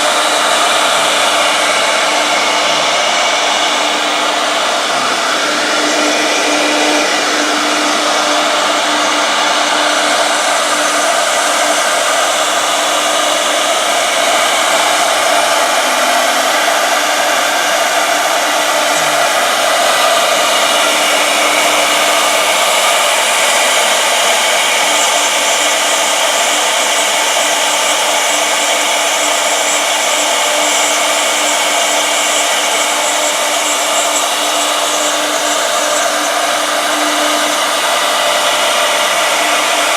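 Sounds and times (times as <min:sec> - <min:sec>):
router spindles whining: 0:00.0 - 0:39.9.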